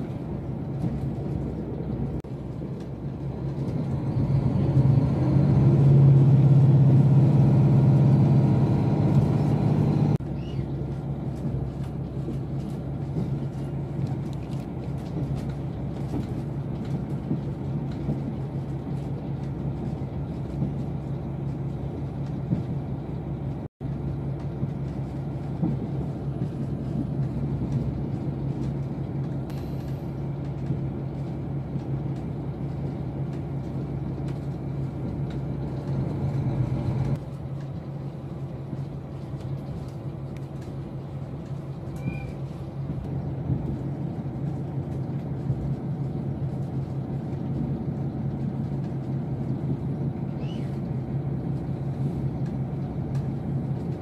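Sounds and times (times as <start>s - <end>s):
train engine hum: 0.0s - 54.0s
wheels rumbling on rails: 0.0s - 54.0s.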